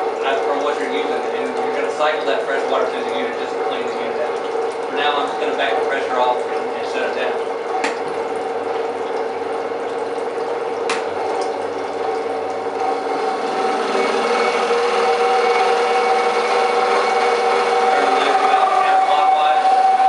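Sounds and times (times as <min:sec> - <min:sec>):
pump motor humming: 0:00.0 - 0:20.0.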